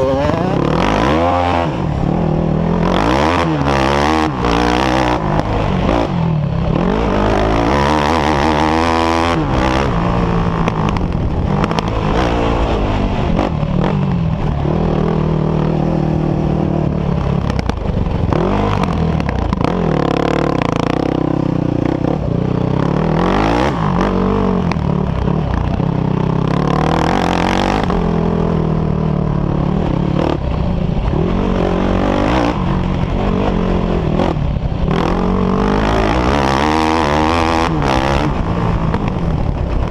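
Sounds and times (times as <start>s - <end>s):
off-road engines revving: 0.0s - 39.9s.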